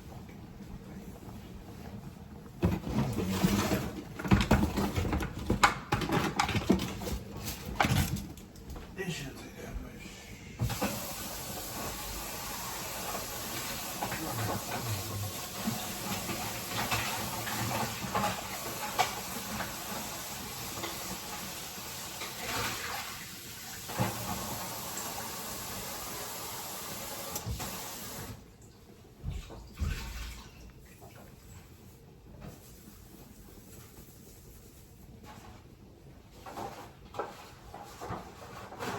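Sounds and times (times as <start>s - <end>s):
water boiling in a pot: 0.0s - 7.8s, 10.1s - 38.9s.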